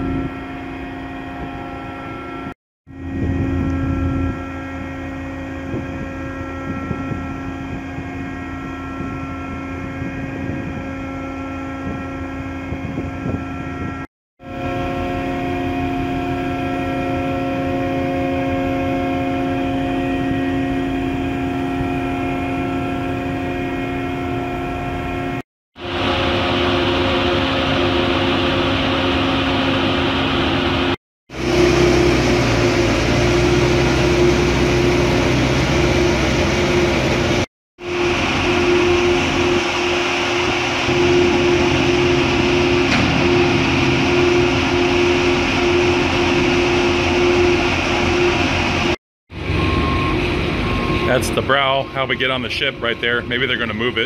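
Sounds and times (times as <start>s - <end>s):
ship machinery drone: 0.0s - 54.0s.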